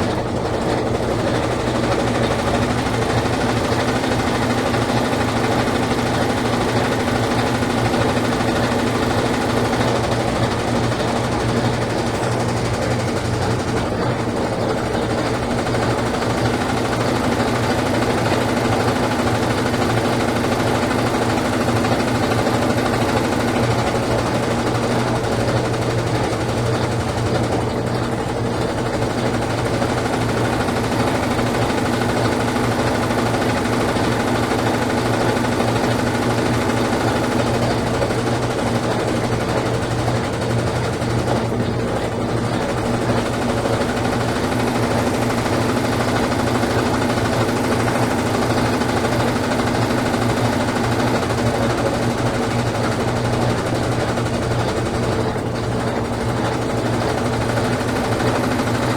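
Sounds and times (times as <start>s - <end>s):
washing machine spinning: 0.0s - 58.9s.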